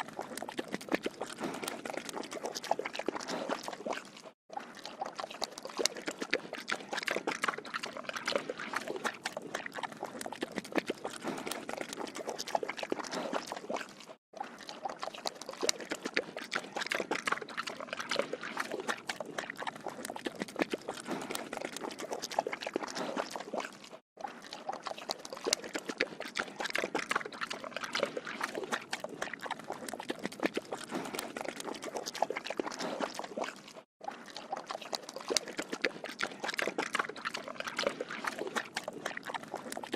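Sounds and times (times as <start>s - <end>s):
pig slurping water: 0.0s - 39.9s.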